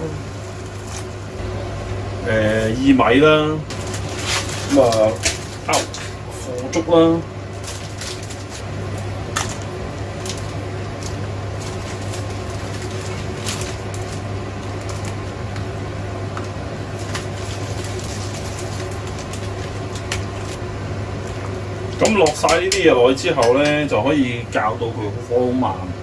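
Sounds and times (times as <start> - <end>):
dry sheets crackling: 0.0 - 1.4, 2.3 - 24.6
steady low hum: 0.0 - 26.0
water boiling in a pot: 0.0 - 26.0.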